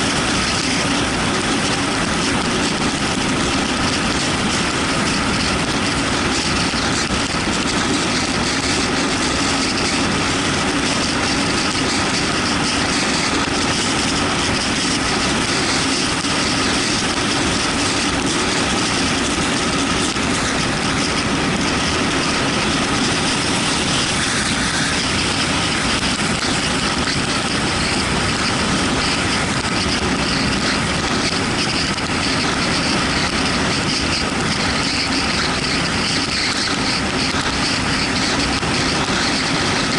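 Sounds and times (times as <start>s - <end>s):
motorcycle engine running: 0.0s - 39.9s
wet road noise: 0.0s - 39.9s
wind rushing: 0.0s - 39.9s.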